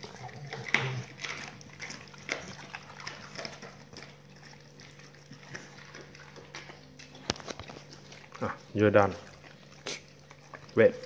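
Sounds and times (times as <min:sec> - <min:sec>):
dog chewing and licking meat: 0:00.0 - 0:11.0.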